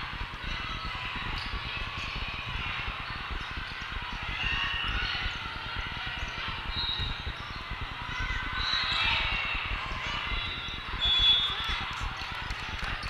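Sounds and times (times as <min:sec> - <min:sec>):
many voices in large hall: 0:00.0 - 0:13.0.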